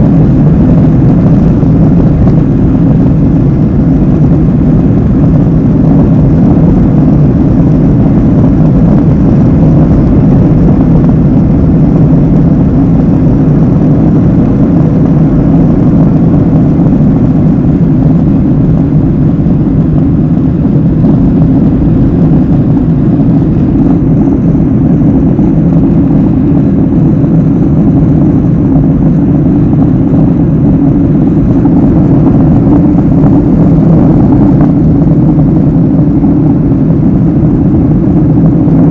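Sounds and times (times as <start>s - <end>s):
jet engines roaring at takeoff: 0.0s - 38.9s.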